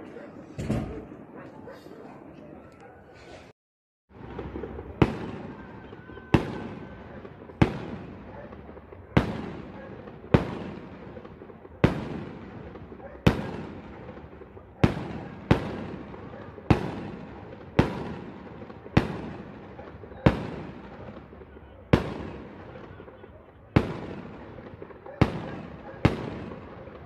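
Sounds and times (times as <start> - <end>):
fireworks bangs: 4.1 - 27.0.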